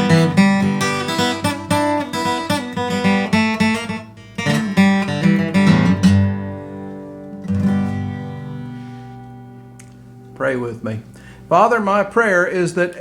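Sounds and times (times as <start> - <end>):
acoustic guitar strumming: 0.0 - 12.1.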